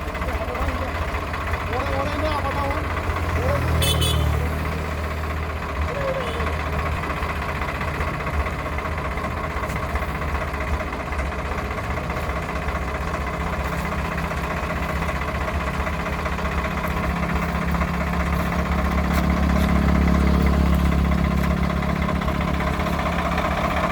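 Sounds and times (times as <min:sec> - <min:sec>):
excavator diesel engine idling: 0:00.0 - 0:23.9.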